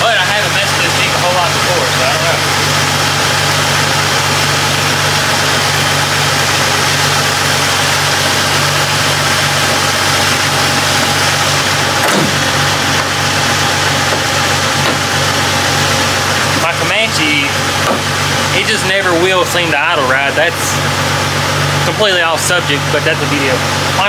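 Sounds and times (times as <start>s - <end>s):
car engine idling with a miss: 0.0s - 24.0s.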